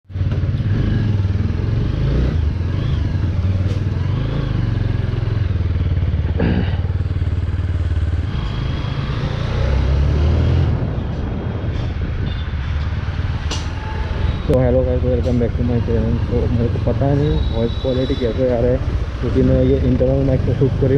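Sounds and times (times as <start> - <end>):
motorcycle engine rumbling: 0.1 - 20.9.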